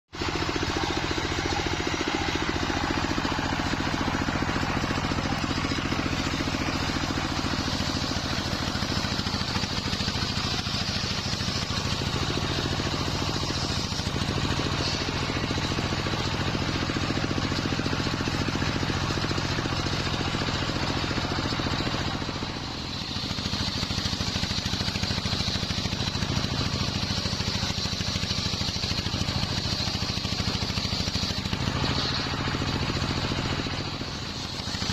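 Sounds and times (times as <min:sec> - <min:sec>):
circular saw hissing cut: 0:00.1 - 0:34.9
sawmill machinery drone: 0:00.1 - 0:34.9.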